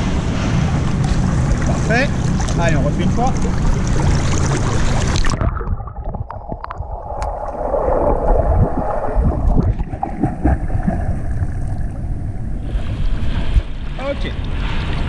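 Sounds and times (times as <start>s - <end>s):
underwater bubbling: 0.0s - 15.0s
water splashing: 0.0s - 15.0s.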